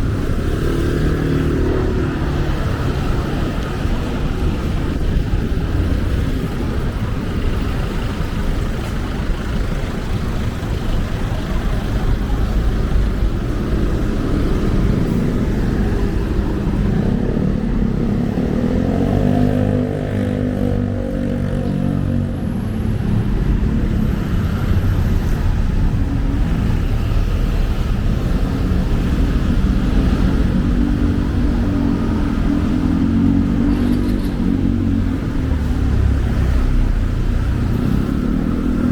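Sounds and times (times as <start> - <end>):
rumble of passing cars: 0.0 - 38.9
vehicle engine hum passing: 0.0 - 38.9.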